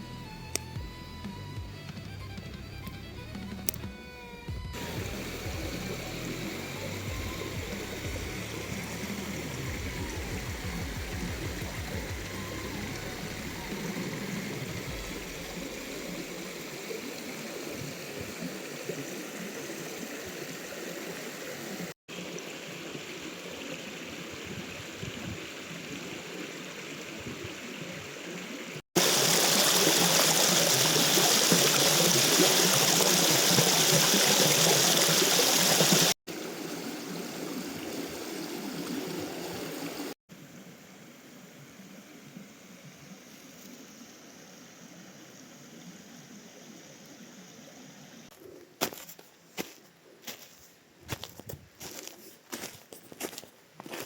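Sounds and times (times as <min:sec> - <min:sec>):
river water flowing: 0:04.8 - 0:48.3.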